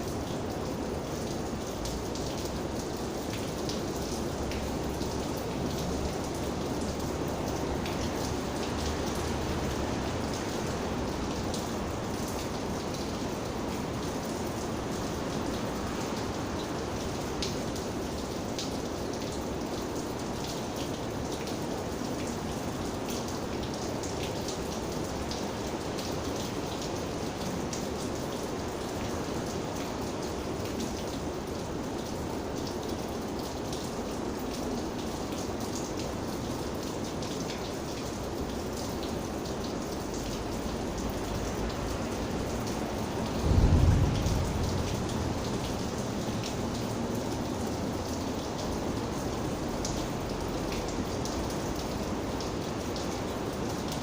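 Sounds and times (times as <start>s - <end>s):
raindrops ticking on a surface: 0.0s - 54.0s
steady rain falling: 0.0s - 54.0s.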